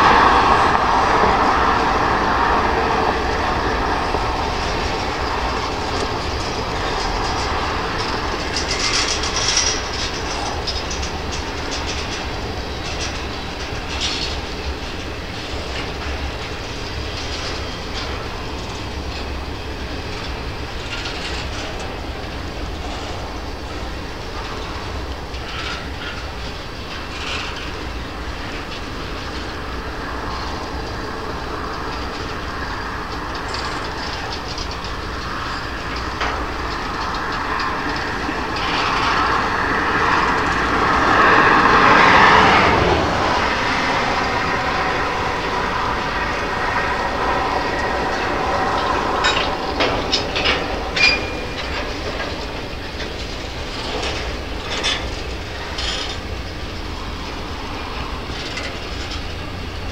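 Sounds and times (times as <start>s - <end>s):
steel wheels rumbling on rail: 0.0s - 59.9s
wheels clicking over rail joints: 0.0s - 59.9s.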